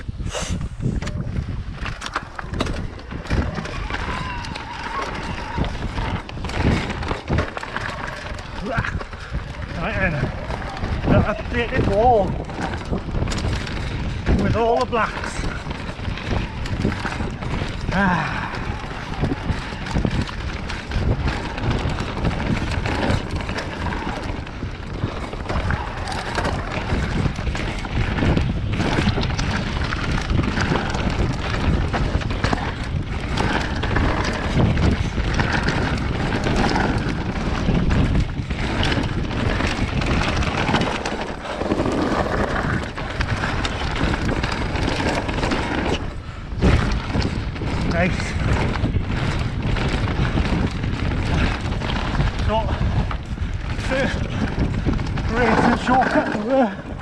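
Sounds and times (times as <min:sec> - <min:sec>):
tyres rumbling on dirt and rock: 0:00.0 - 0:57.0
wind buffeting microphone: 0:00.0 - 0:57.0
bike clattering and knocking: 0:00.9 - 0:57.0.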